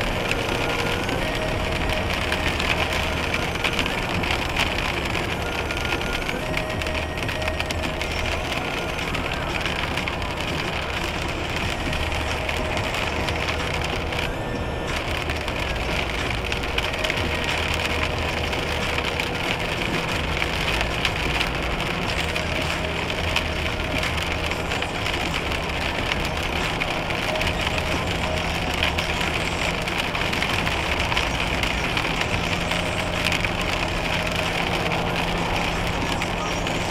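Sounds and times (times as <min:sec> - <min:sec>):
car road and tyre noise: 0:00.0 - 0:36.9
crackle of small ticks: 0:00.0 - 0:36.9.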